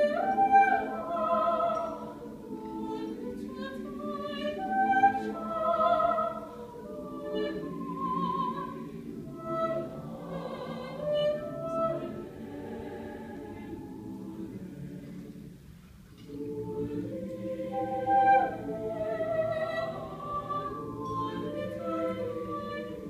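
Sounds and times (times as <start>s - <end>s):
mixed choir singing: 0.0s - 15.6s, 16.2s - 23.0s.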